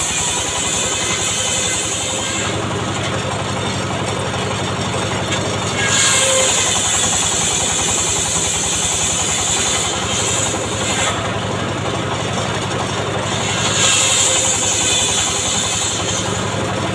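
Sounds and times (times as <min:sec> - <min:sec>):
circular saw cutting wood: 0:00.0 - 0:16.9
saw bench engine running: 0:00.0 - 0:16.9.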